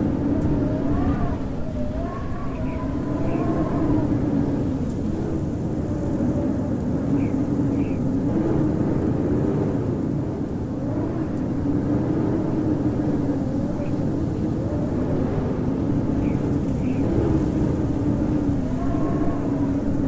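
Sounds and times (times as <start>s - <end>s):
blizzard wind howling: 0.0s - 20.0s.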